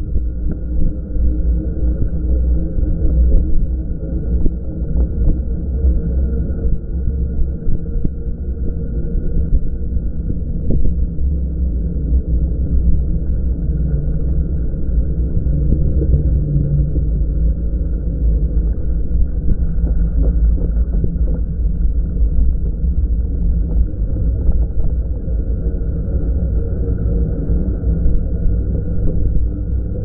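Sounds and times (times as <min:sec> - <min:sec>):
wind and riding rumble: 0:00.0 - 0:30.0.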